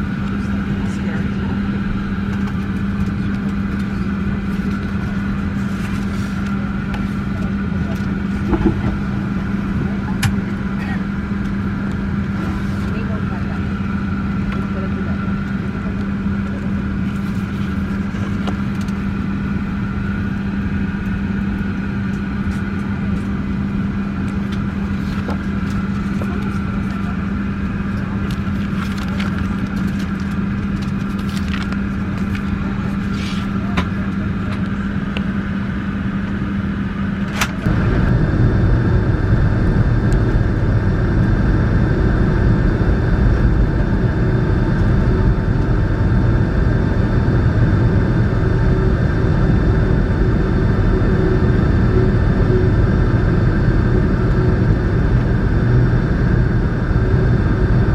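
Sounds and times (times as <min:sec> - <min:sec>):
airliner cabin hum: 0:00.0 - 0:57.9.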